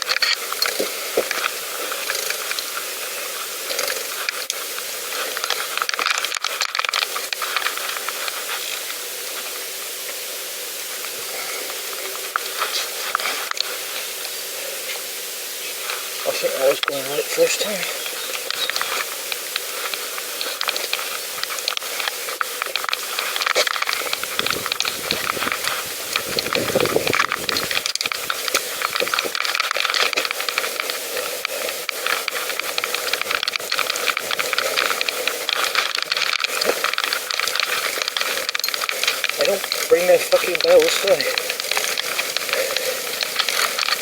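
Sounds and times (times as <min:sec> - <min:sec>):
bicycle clicks and rattles: 0:00.0 - 0:09.0, 0:15.9 - 0:44.0
bicycle tyres hissing on path: 0:00.0 - 0:44.0.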